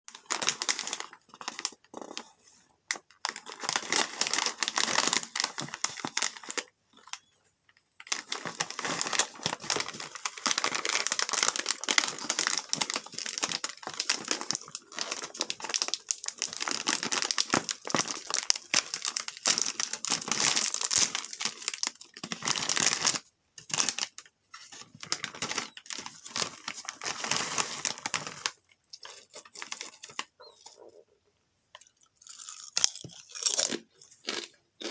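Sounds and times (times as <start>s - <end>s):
plastic snack bag crinkling: 0.1s - 2.3s, 2.9s - 31.0s, 31.7s - 34.9s.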